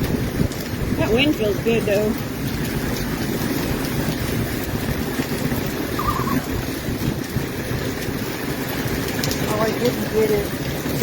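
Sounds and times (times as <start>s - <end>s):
pouring rain: 0.0s - 11.0s
wind gusting on microphone: 0.0s - 11.0s.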